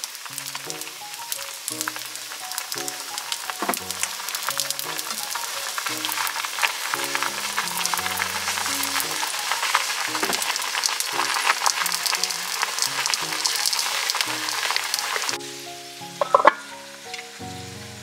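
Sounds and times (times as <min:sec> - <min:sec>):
dumplings sizzling in oil: 0:00.0 - 0:18.0
soft background music: 0:00.1 - 0:18.0.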